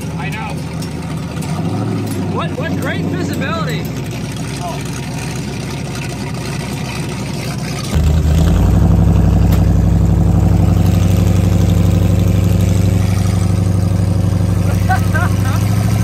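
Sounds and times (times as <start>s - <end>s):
car engine revving while driving: 0.7s - 16.0s.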